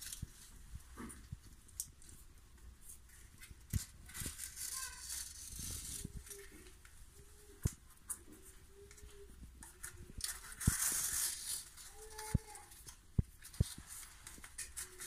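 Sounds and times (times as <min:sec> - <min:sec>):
plastic film rustling and crinkling: 0:00.0 - 0:15.0.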